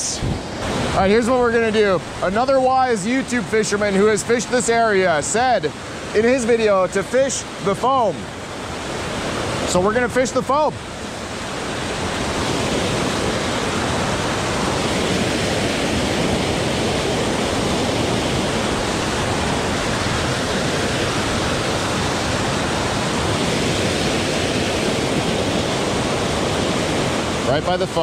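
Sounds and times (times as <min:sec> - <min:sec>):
waterfall rushing over rocks: 0:00.0 - 0:28.0.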